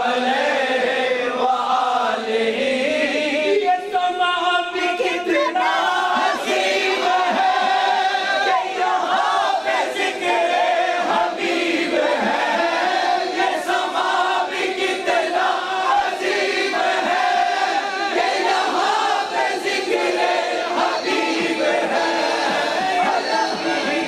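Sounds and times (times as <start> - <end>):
men singing devotional song: 0.0 - 24.0.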